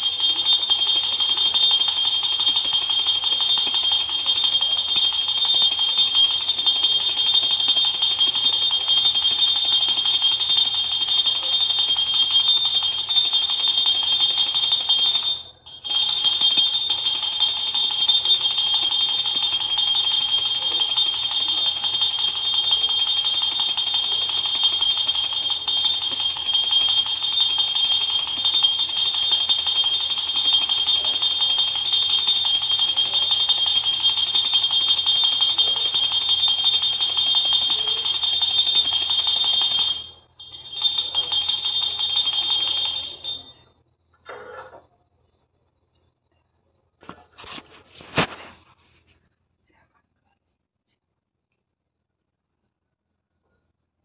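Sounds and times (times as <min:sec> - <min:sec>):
small hand bell ringing: 0:00.0 - 0:43.7.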